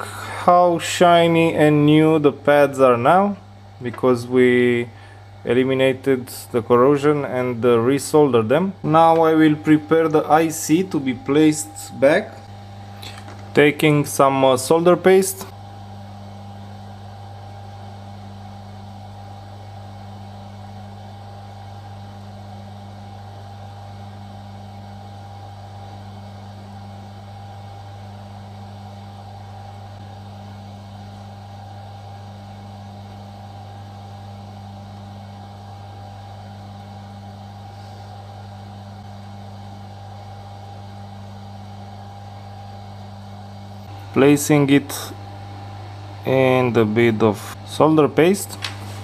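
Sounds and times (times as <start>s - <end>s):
machine hum: 0.0s - 49.0s.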